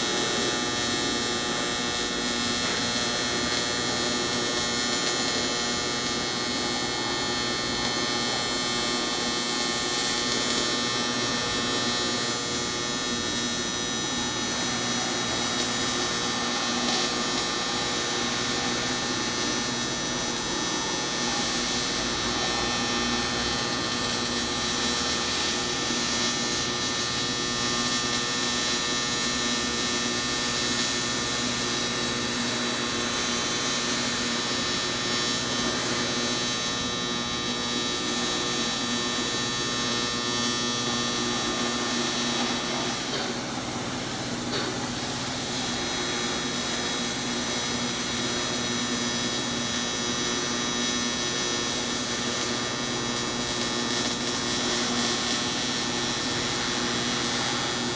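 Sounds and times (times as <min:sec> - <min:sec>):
welding arc buzzing: 0:00.0 - 0:57.9.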